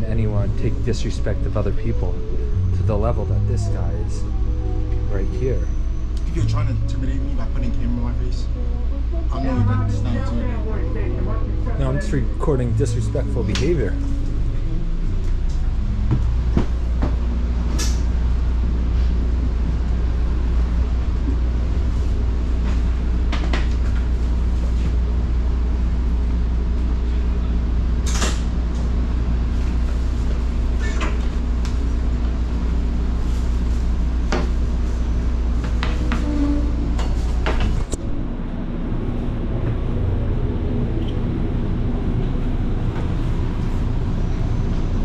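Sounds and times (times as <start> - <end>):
train cabin rumble: 0.0 - 45.0.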